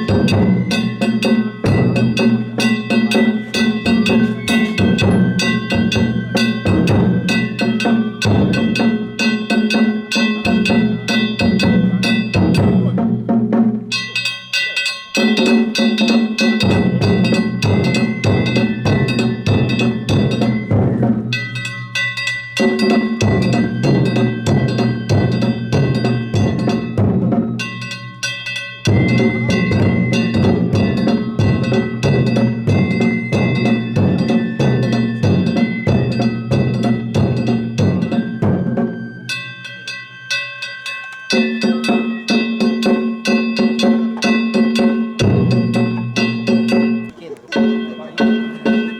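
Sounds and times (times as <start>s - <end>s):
drums beaten fast: 0.0s - 39.4s, 41.3s - 48.9s
small gongs clanging: 0.0s - 48.9s.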